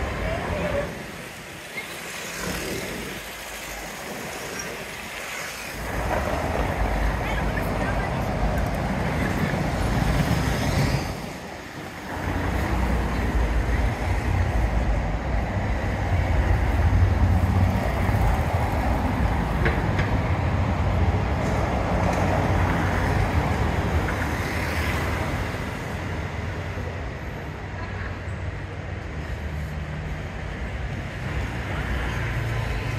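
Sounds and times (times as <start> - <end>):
cars passing by: 0.0 - 32.9
steady rumble of traffic: 0.0 - 32.9.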